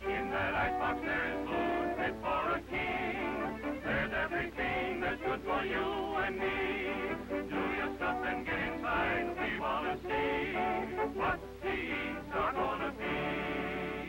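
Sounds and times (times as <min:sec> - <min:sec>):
cartoon background music: 0:00.0 - 0:14.0.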